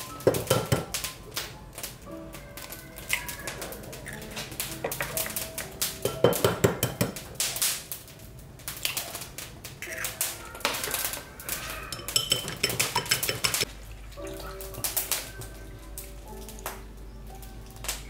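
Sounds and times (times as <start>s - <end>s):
utensils and dishes clattering: 0.0s - 8.0s, 9.0s - 16.6s.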